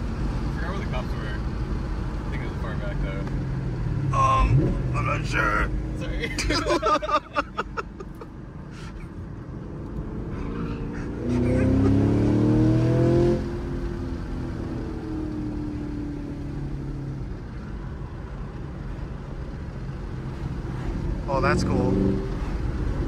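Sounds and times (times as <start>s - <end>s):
car engine accelerating: 0.0s - 23.0s
road noise: 0.0s - 23.0s.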